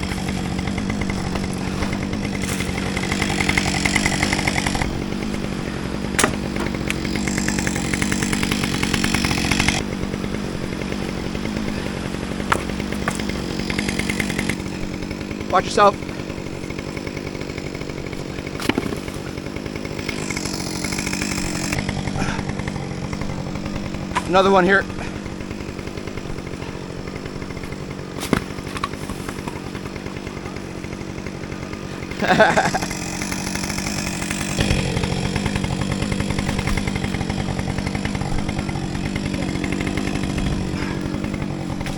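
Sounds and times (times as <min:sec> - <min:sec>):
chainsaw running: 0:00.0 - 0:41.9.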